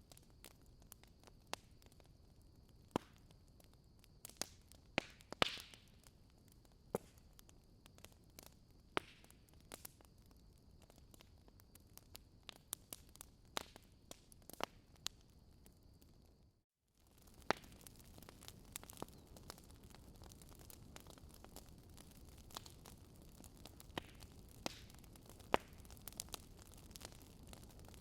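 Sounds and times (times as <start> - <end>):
wood fire crackling and popping: 0.0 - 16.3, 17.0 - 28.0.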